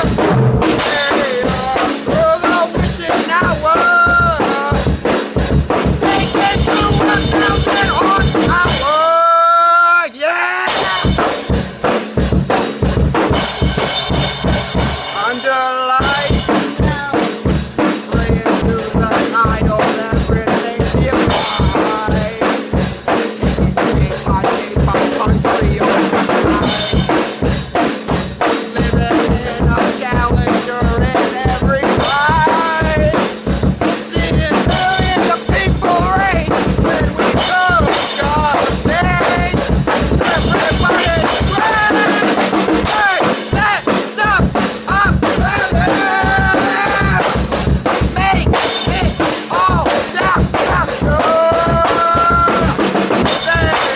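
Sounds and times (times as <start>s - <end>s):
fast drum beat: 0.0s - 9.3s, 10.4s - 53.9s.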